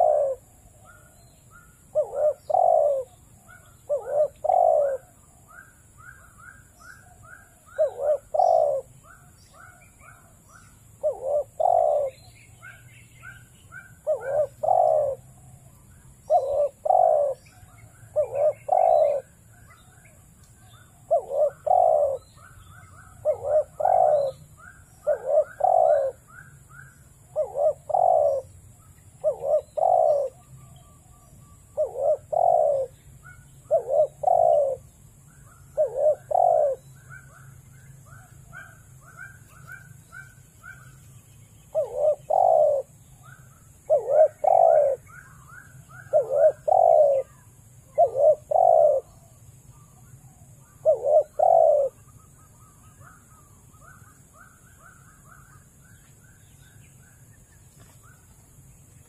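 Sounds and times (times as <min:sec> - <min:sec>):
dove cooing: 0:00.0 - 0:41.0, 0:41.7 - 0:55.7.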